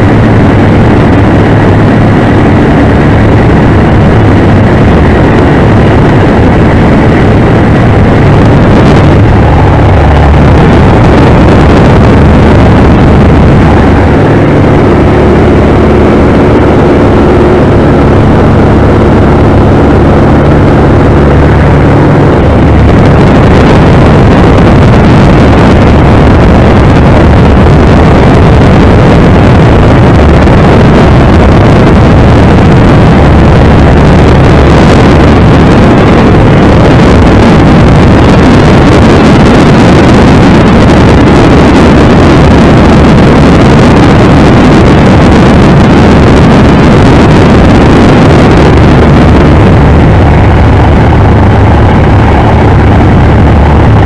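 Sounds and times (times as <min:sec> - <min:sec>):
propeller engine running: 0:00.0 - 0:54.0
wind rushing: 0:00.0 - 0:54.0.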